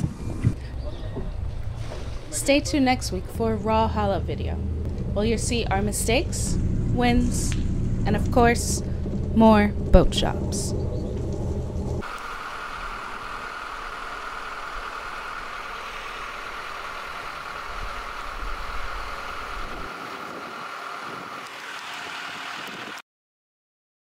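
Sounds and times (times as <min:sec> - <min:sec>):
engine high whine: 0:00.0 - 0:23.0.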